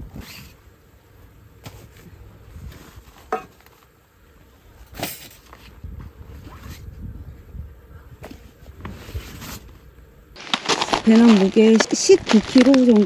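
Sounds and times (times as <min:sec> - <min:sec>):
low rumble of handling noise: 0:00.0 - 0:13.0.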